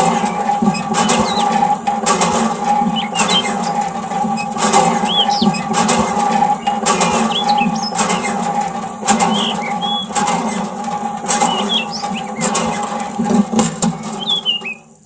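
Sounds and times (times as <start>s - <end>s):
sharp clicks: 0.0s - 15.0s
small birds chirping: 0.0s - 15.0s
steady hum: 0.0s - 15.0s.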